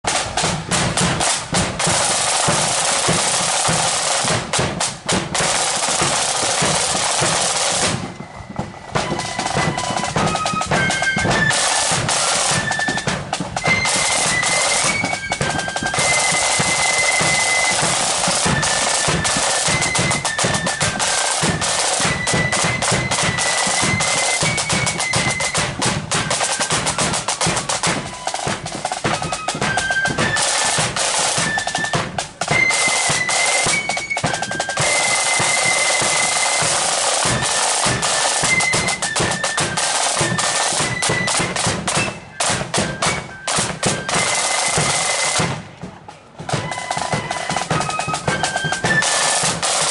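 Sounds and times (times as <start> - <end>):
snare drum rolls: 0.0 - 49.9
flutes playing high melody: 5.4 - 45.6, 46.4 - 49.9.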